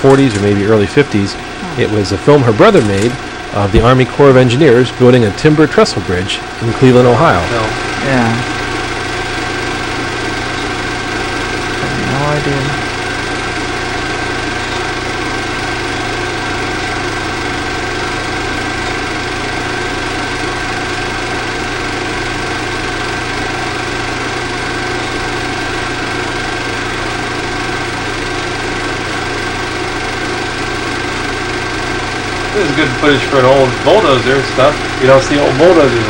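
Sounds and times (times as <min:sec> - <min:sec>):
film projector whirring: 0:00.0 - 0:36.0
high whine: 0:00.0 - 0:36.0
low hum: 0:00.0 - 0:36.0.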